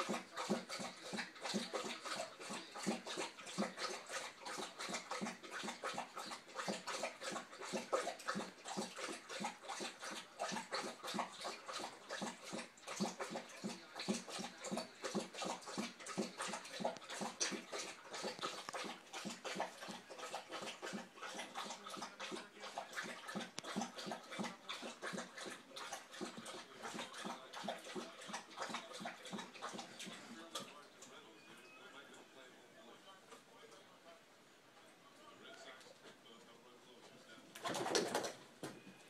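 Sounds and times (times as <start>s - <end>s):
dog lapping water: 0.0s - 31.2s, 37.5s - 38.7s.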